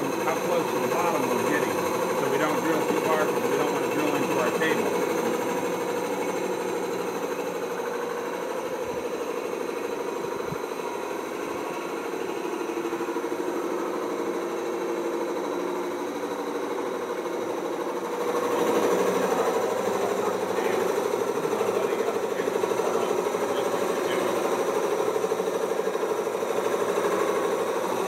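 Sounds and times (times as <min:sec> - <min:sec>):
core drill humming: 0:00.0 - 0:28.0.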